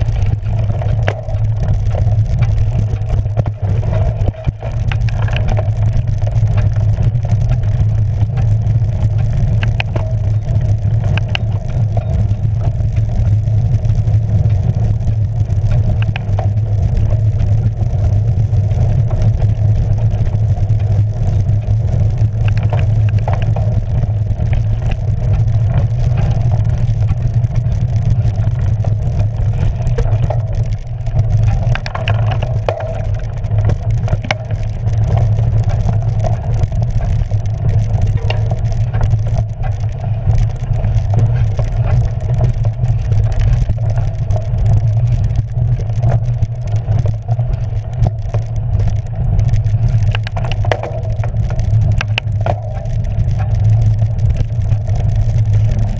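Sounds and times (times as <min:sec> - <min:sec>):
bike rattles and clicks: 0:00.0 - 0:55.9
bike riding rumble: 0:00.0 - 0:55.9.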